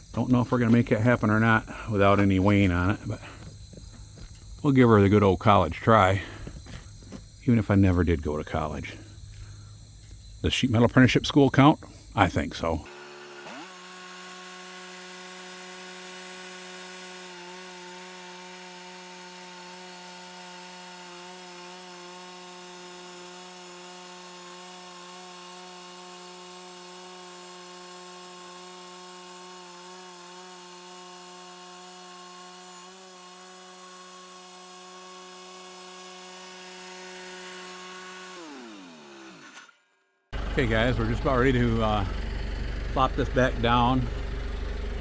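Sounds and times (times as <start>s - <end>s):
band sawmill cutting log: 0.0s - 8.9s, 10.7s - 39.8s, 40.4s - 45.0s.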